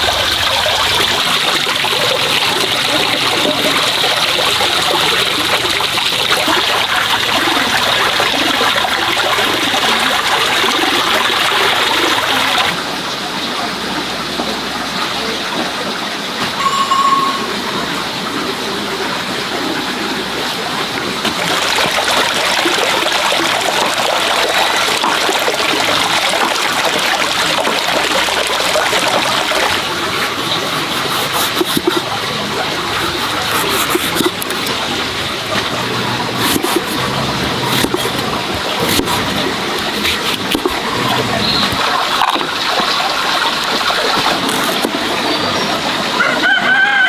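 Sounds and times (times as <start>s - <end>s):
water pouring into basin: 0.0s - 12.9s, 19.2s - 46.6s.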